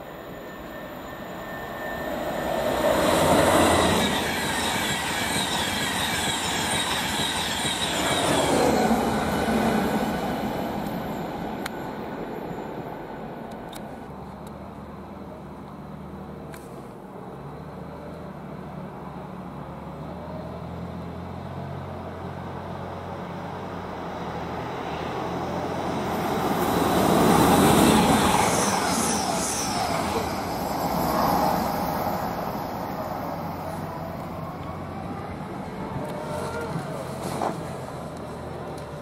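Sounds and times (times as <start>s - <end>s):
diesel train passing: 0.0s - 39.0s.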